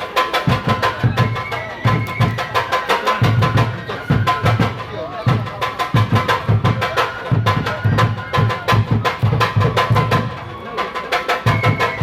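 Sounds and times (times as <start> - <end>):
drum beating: 0.0 - 12.0.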